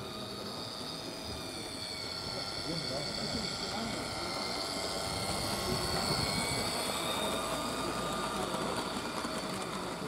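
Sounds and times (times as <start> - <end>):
model locomotive high whine: 0.0 - 10.0
wheels clicking over track: 0.0 - 10.0.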